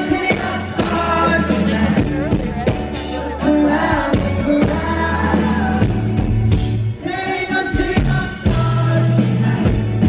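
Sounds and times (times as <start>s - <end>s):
man singing into a microphone: 0.0s - 6.2s, 6.9s - 10.0s
live rock band playing: 0.0s - 10.0s.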